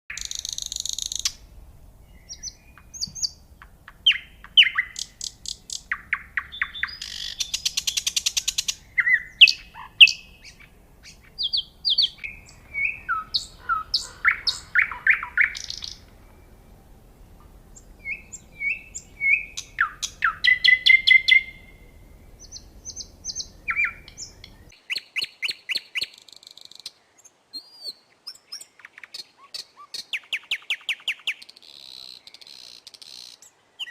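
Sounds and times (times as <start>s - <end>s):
nightingale singing: 0.1s - 33.9s.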